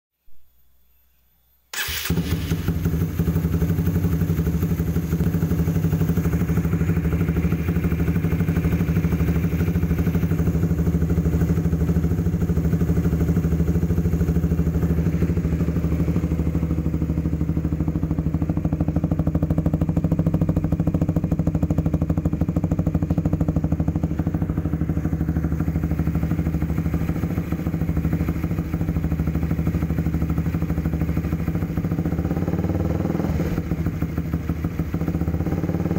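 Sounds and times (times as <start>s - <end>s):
engine idling: 1.7s - 35.9s.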